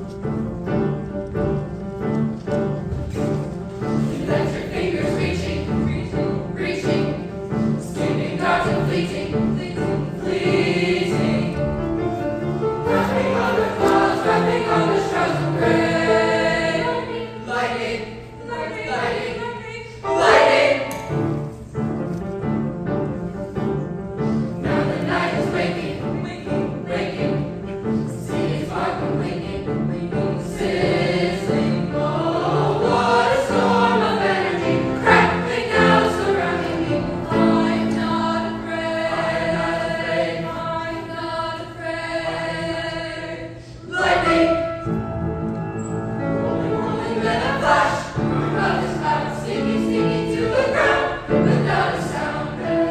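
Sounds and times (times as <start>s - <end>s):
choir singing sustained chords: 3.8s - 21.5s, 24.2s - 52.9s.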